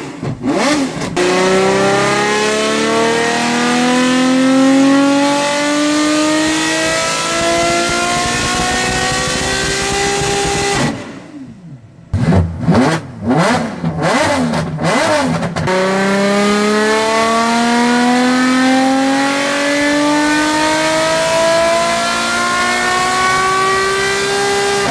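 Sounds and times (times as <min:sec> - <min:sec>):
car engine accelerating: 0:00.0 - 0:24.9
engine quick revs: 0:00.0 - 0:24.9.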